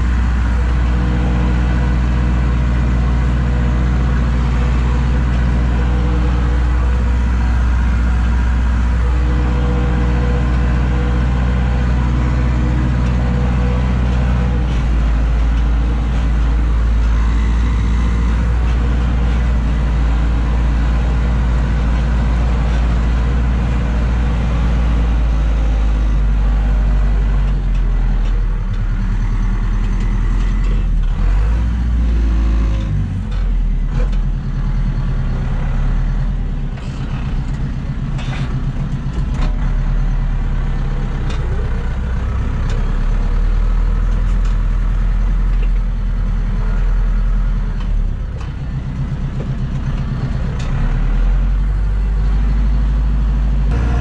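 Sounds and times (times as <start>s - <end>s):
tractor diesel engine droning: 0.0s - 54.0s.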